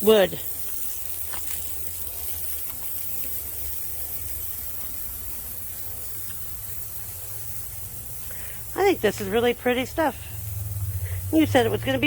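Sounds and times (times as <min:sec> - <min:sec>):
water spraying from a hose: 0:00.0 - 0:12.0.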